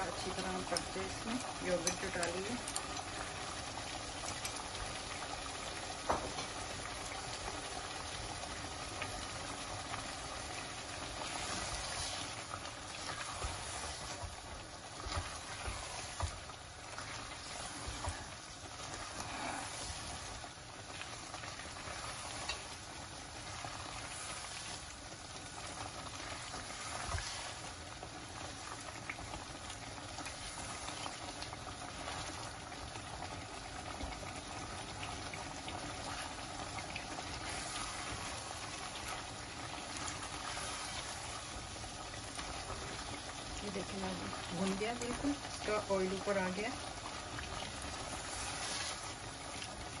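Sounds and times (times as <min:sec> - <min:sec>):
food bubbling and sizzling in a pot: 0:00.0 - 0:50.0.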